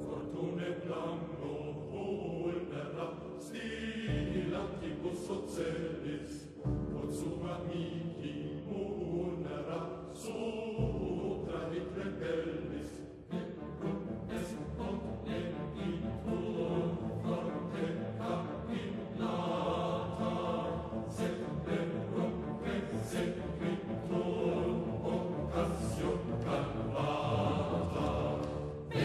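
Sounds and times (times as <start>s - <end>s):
choir singing held chords: 0.0s - 29.0s.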